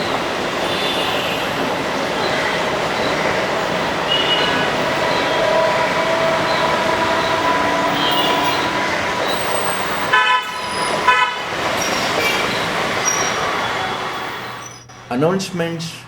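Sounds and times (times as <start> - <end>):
train horn toots: 0.0 - 15.1
passing train rumble: 0.0 - 15.8.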